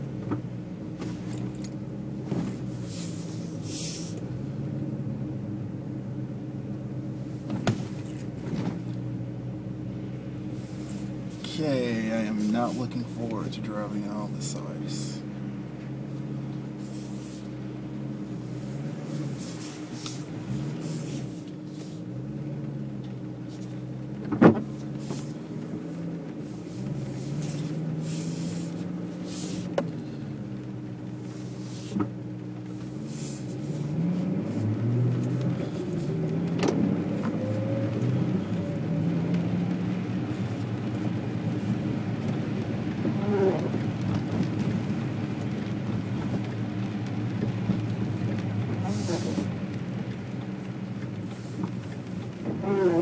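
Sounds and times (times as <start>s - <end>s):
car engine from inside cabin: 0.0s - 53.0s
tyres on wet road: 0.0s - 53.0s.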